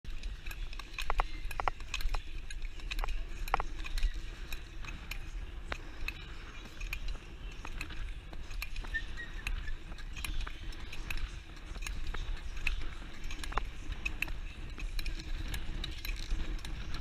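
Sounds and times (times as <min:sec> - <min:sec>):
wind rumble on microphone: 0:00.0 - 0:17.0
skate blades clicking: 0:00.1 - 0:17.0.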